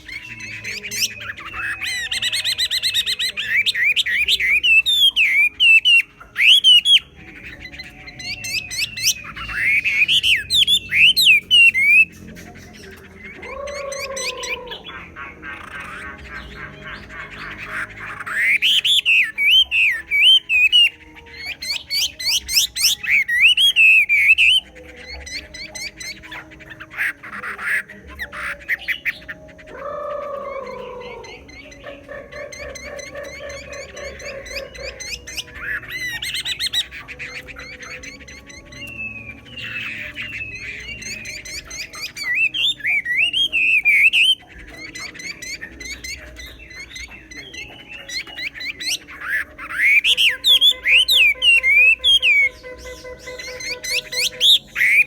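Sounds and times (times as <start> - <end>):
songbird whistled song: 0.0 - 55.0.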